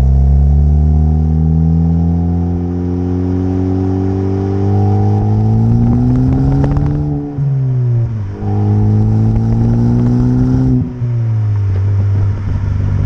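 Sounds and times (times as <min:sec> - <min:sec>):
turbocharged car engine accelerating: 0:00.0 - 0:13.0.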